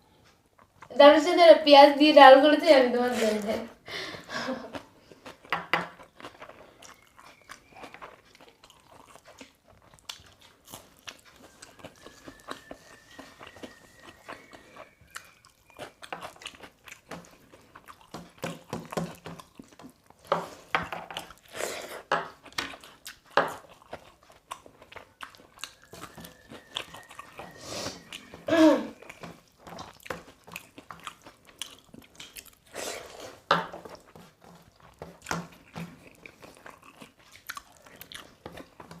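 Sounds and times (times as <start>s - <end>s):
chewing and lip smacks: 4.7s - 21.6s, 22.3s - 39.0s.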